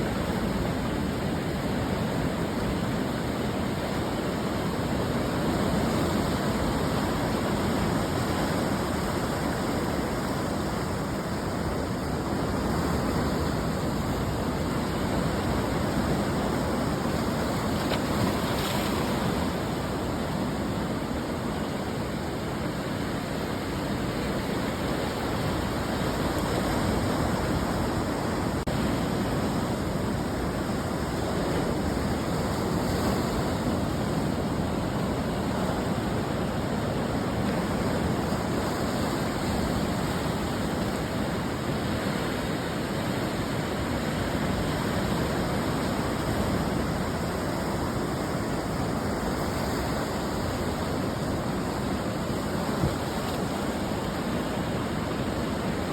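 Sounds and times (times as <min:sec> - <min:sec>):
ocean surf breaking: 0:00.0 - 0:55.9.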